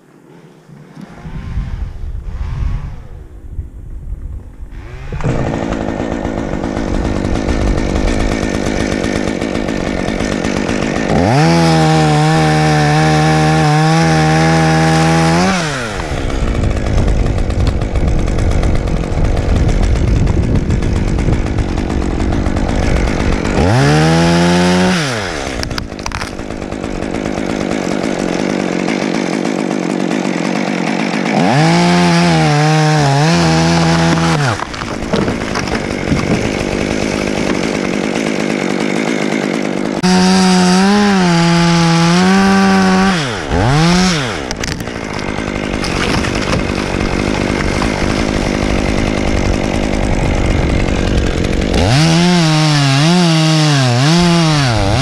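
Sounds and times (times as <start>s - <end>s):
chainsaw idling and revving: 4.7s - 55.0s.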